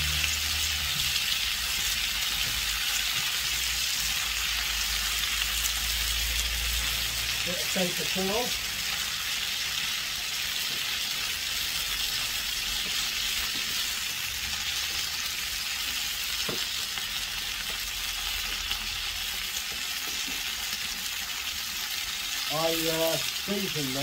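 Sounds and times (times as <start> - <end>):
ribs sizzling in a pan: 0.0 - 24.0.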